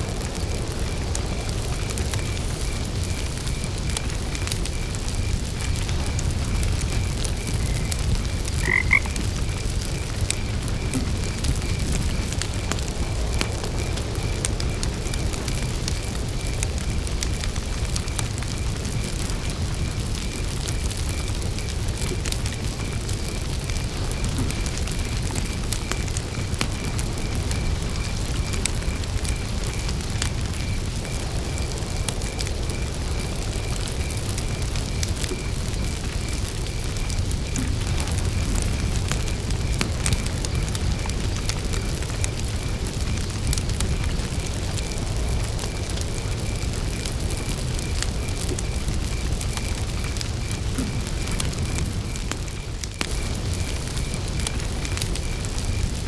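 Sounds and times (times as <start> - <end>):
campfire crackling: 0.0 - 56.0
crickets chirping: 0.0 - 56.0
frogs croaking: 0.1 - 56.0.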